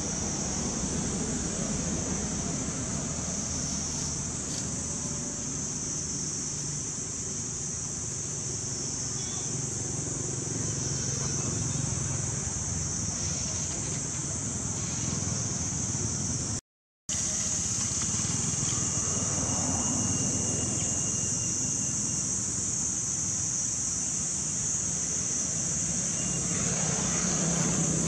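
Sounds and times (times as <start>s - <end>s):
high drone of insects: 0.0s - 28.0s
low rumble of road traffic: 0.0s - 28.0s.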